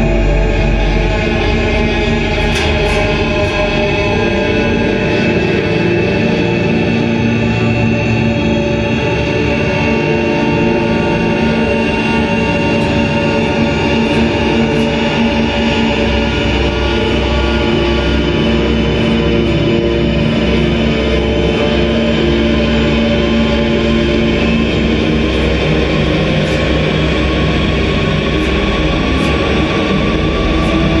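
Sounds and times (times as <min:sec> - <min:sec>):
dense drone music: 0:00.0 - 0:31.0.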